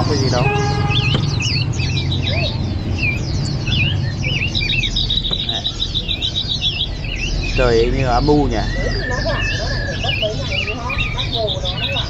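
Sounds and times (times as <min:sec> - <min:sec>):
bird fast repeated chirps: 0:00.0 - 0:12.0
small songbirds chirping: 0:00.0 - 0:12.0
street traffic rumble: 0:00.0 - 0:12.0.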